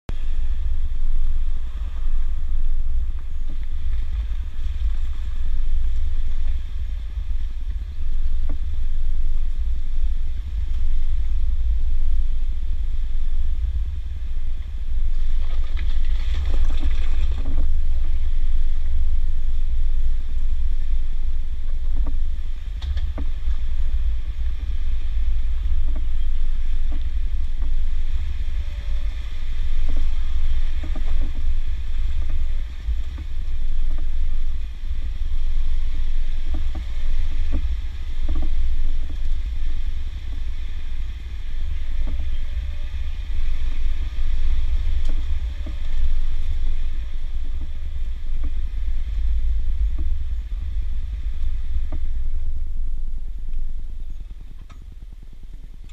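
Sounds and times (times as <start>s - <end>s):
vehicle driving on dirt trail: 0.1s - 55.9s.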